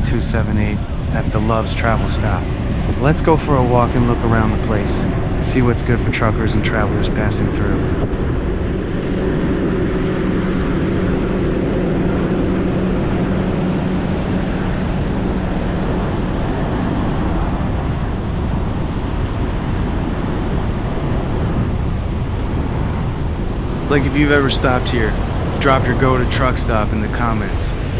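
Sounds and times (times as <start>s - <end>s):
low even hum: 0.0s - 27.9s.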